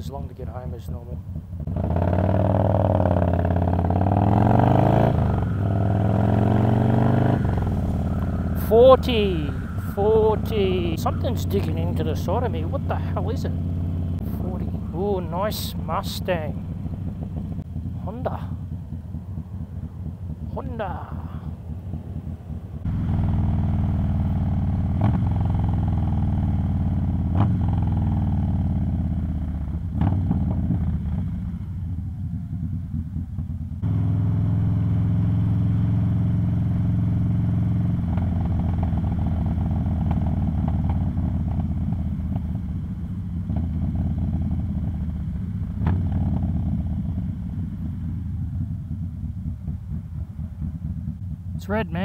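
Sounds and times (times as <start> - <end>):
motorcycle engine accelerating: 0.7 - 52.0.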